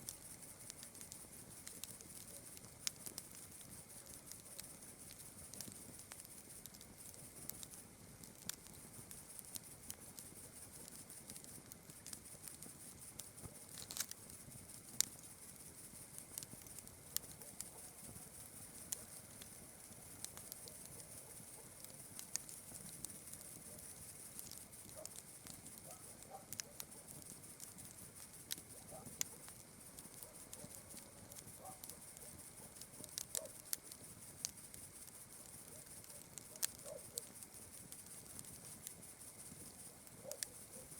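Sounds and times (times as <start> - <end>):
campfire crackling and popping: 0.0 - 40.9
night insects chirring: 0.0 - 40.9.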